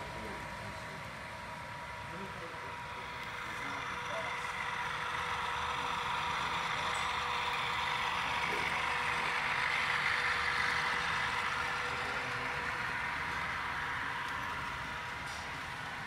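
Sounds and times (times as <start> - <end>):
model train engine sound: 0.0 - 16.0
model train running noise: 0.0 - 16.0.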